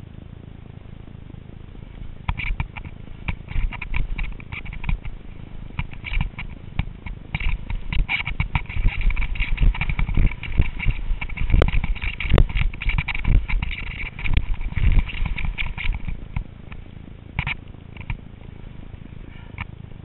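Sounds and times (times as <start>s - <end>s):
wind rumble: 0.0s - 20.0s
skis scraping over snow: 1.9s - 20.0s.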